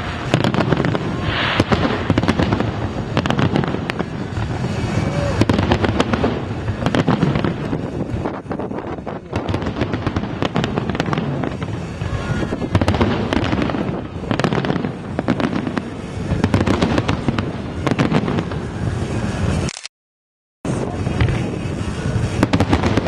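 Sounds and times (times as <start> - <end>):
firework shell bursts: 0.0 - 19.7
fireworks crackling: 0.0 - 19.8, 20.7 - 23.0.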